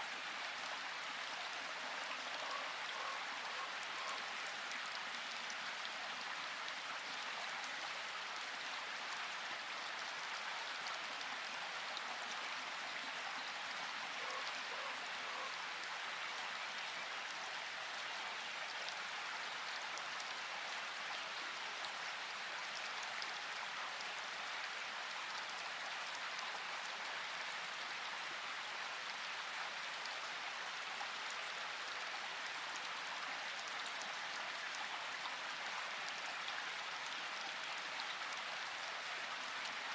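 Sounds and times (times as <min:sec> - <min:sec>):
rain-like background hiss: 0:00.0 - 0:39.9.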